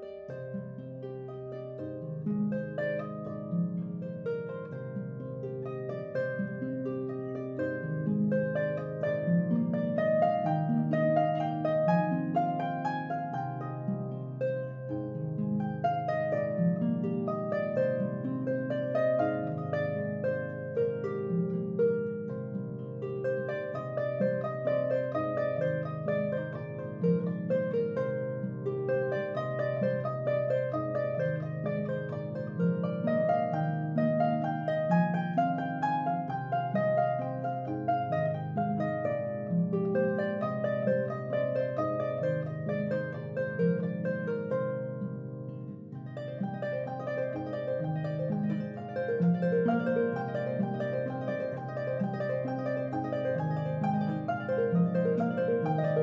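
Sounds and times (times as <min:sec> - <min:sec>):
harp music: 0:00.0 - 0:56.0.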